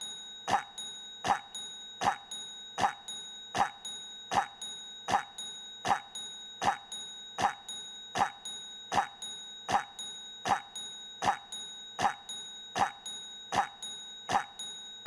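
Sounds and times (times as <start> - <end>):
faint steady high tone: 0.0 - 15.0.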